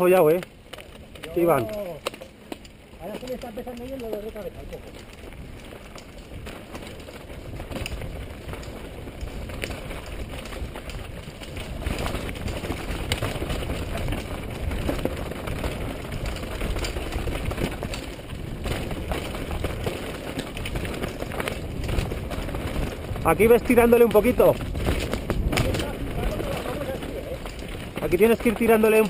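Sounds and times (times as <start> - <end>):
mountain bike rattling on dirt trail: 0.0 - 29.0
wind rumble on camera: 0.0 - 29.0.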